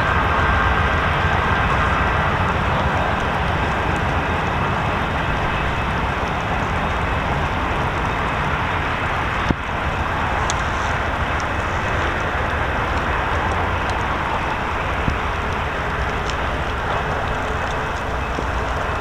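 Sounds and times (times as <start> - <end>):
passenger train rumbling: 0.0 - 19.0.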